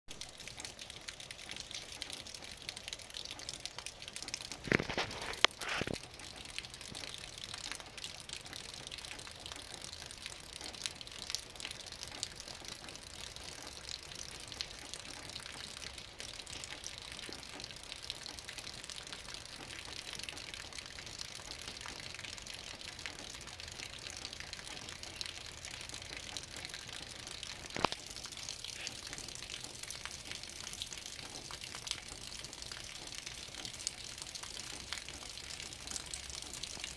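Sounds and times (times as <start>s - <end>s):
sharp taps of raindrops: 0.1s - 36.9s
steady rain: 0.1s - 36.9s.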